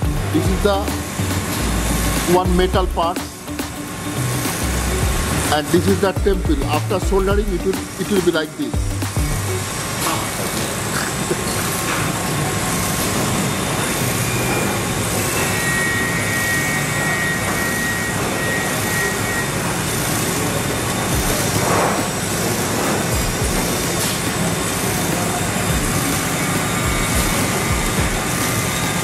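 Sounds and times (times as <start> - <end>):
hiss-like machinery drone: 0.0 - 29.0.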